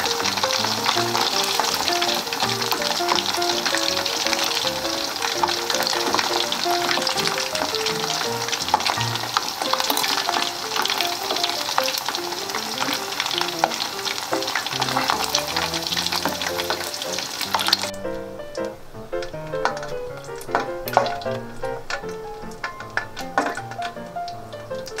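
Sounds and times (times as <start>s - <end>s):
meat deep-frying in oil: 0.0s - 25.0s.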